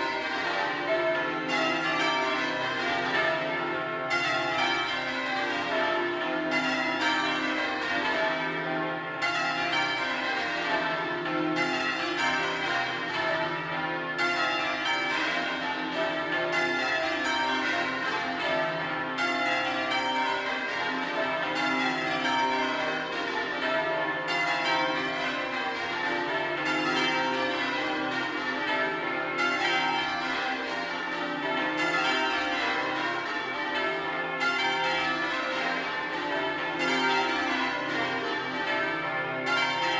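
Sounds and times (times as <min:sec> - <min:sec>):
church bells change ringing: 0:00.0 - 0:39.9.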